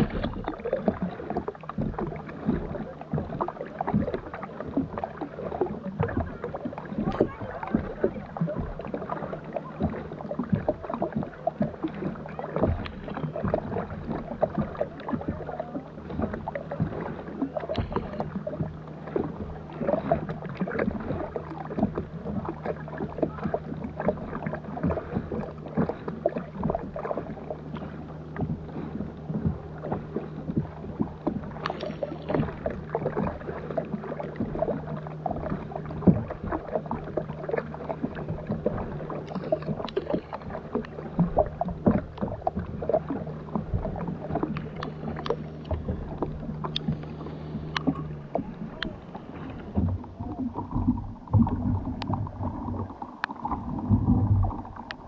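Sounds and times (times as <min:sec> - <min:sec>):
paddle strokes splashing: 0:00.0 - 0:55.0
steady low hum: 0:00.0 - 0:55.0
water slapping plastic hull: 0:00.0 - 0:55.0.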